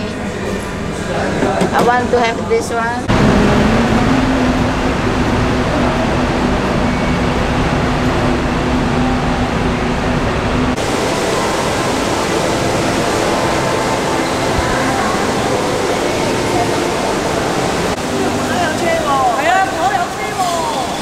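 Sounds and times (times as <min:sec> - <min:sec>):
idling buses and ventilation hum: 0:00.0 - 0:21.0
indoor fountain water rushing: 0:03.0 - 0:21.0.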